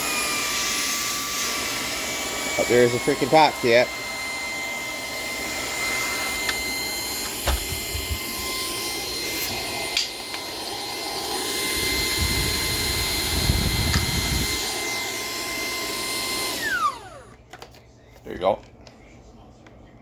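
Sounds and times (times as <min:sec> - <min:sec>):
vacuum motor whine: 0:00.0 - 0:17.8.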